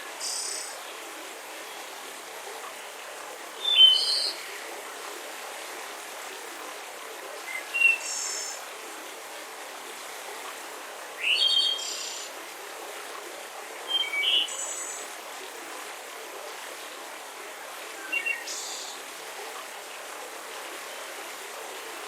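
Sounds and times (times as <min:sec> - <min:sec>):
gentle breeze hiss: 0:00.0 - 0:22.0.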